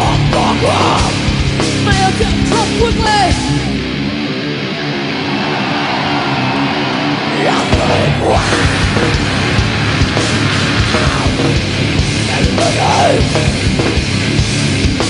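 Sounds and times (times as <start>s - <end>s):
electric guitars: 0.0s - 15.0s
metal band playing live: 0.0s - 15.0s.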